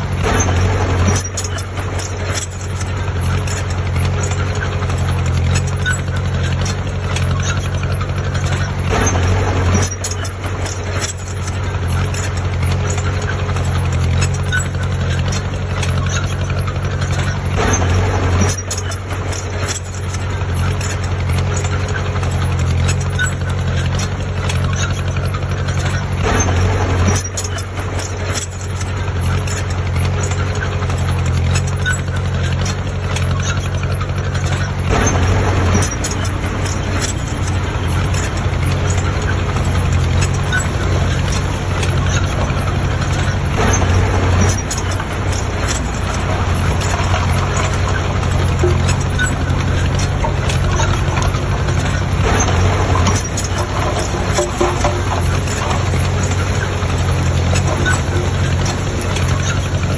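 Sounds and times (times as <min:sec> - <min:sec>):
clicks and knocks: 0:00.0 - 0:59.9
heavy diesel engine running: 0:00.0 - 0:59.9.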